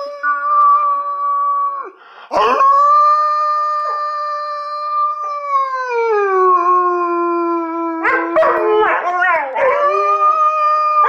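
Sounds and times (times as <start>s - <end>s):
puppy howling: 0.0s - 11.0s.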